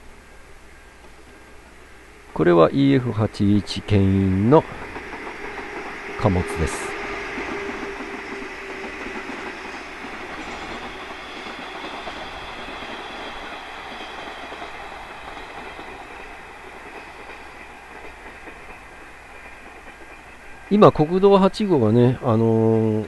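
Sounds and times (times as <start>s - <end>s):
freight train passing: 0.0s - 23.0s.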